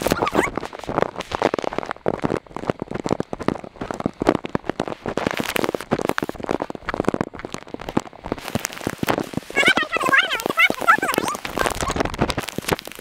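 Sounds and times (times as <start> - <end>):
heavy rain on plastic bag: 0.0 - 13.0.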